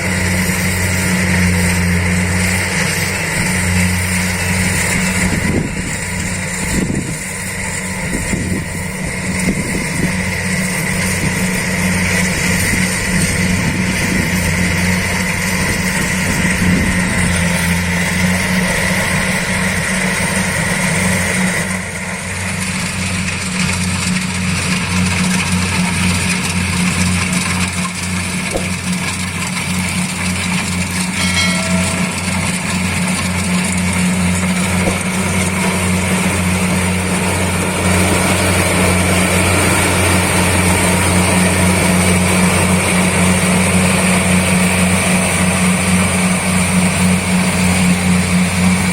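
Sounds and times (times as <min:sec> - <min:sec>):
combine harvester engine drone: 0:00.0 - 0:48.9.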